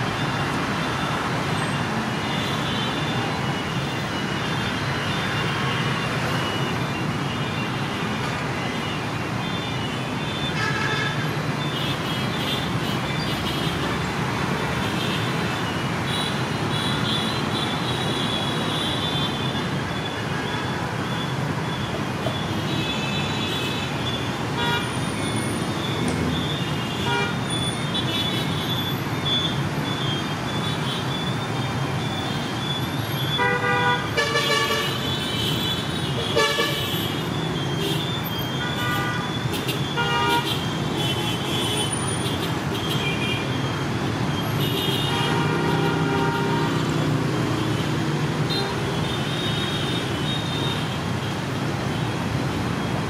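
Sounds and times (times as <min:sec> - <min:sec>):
street traffic: 0:00.0 - 0:53.0.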